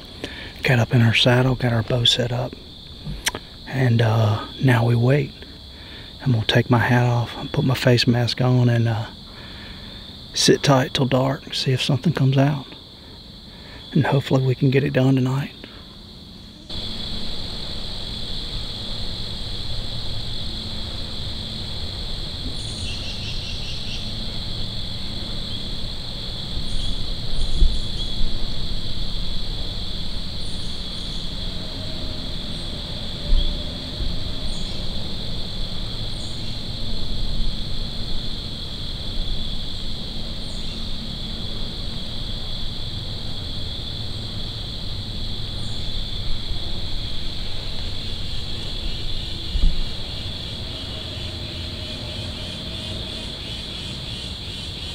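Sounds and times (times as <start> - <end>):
crickets trilling: 0.0 - 54.9.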